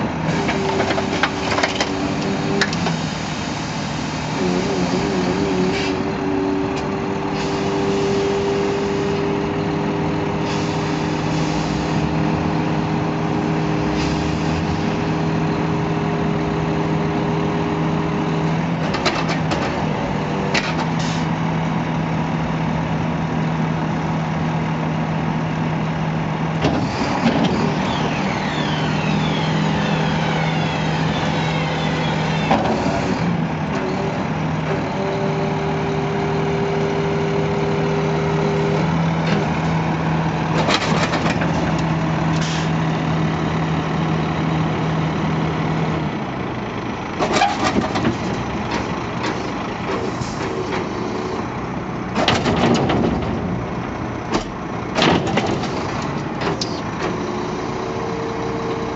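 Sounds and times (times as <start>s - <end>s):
truck engine and hydraulic hum: 0.0s - 58.9s.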